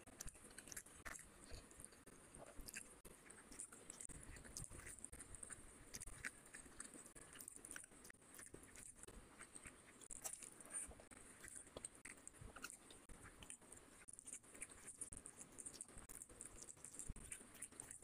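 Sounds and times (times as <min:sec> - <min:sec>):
wet chewing and lip smacking: 0:00.0 - 0:18.0.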